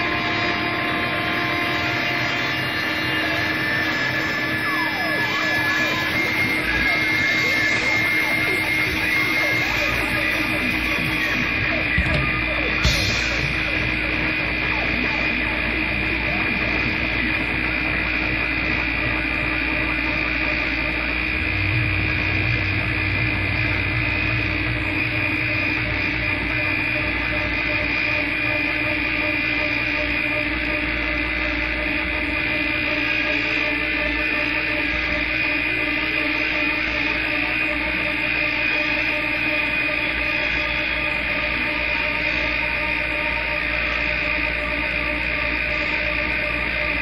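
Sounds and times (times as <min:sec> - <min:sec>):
distorted noise wall: 0:00.0 - 0:47.0
droning tones: 0:00.0 - 0:47.0
low hum: 0:00.0 - 0:47.0.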